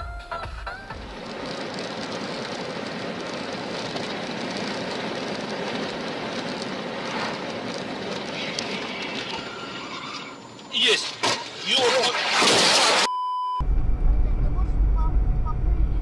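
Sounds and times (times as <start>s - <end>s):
car road and wind noise: 0.7s - 11.7s, 13.6s - 16.0s.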